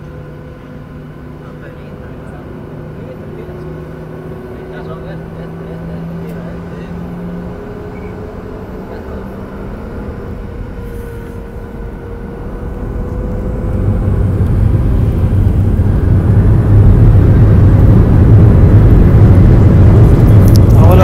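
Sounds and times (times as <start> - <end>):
jet engines heard from cabin: 0.0 - 21.0
thin engine whine: 0.0 - 21.0.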